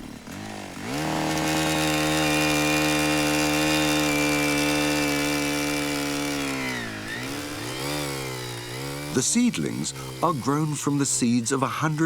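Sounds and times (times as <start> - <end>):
power tool engine running: 0.0 - 12.0.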